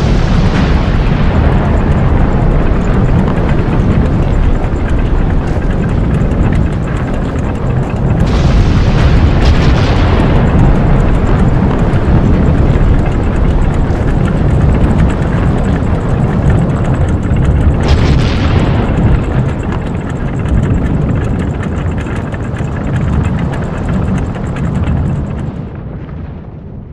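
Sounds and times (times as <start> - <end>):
deep volcanic rumble: 0.0 - 26.9.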